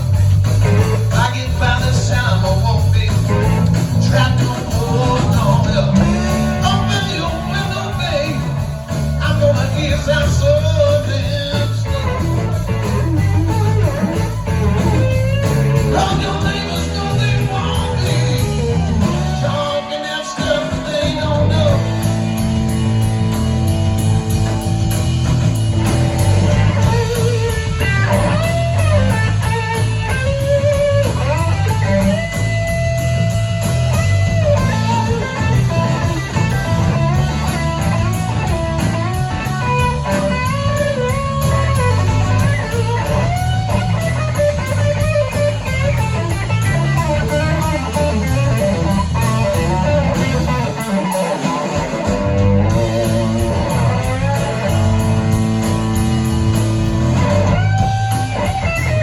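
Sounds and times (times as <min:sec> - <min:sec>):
bass and drum groove: 0:00.0 - 0:59.0
lead electric guitar bending notes: 0:00.0 - 0:59.0.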